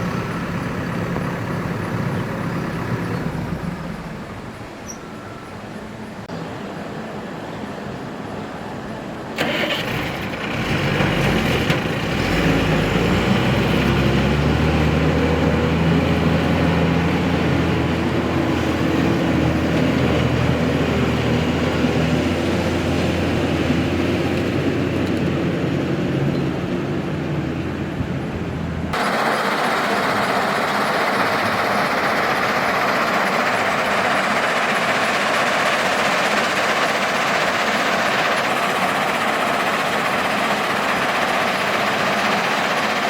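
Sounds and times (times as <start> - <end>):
heavy diesel engine running: 0.0 - 4.8, 9.4 - 43.0.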